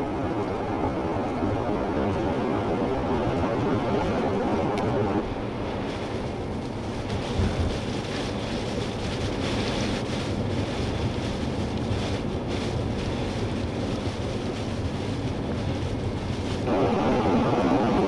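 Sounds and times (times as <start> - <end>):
blizzard wind buffeting microphone: 0.0 - 18.0
low steady rumble: 0.0 - 18.0.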